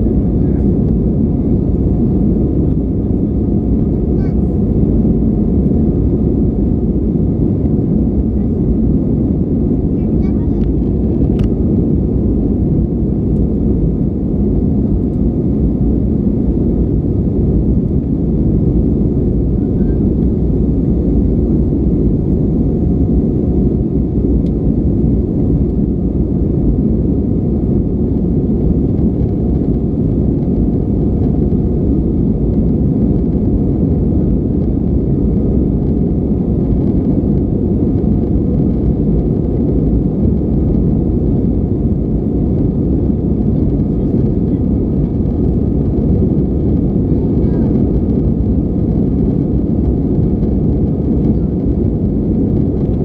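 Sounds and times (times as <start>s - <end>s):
jet engine roar in cabin: 0.0s - 53.0s.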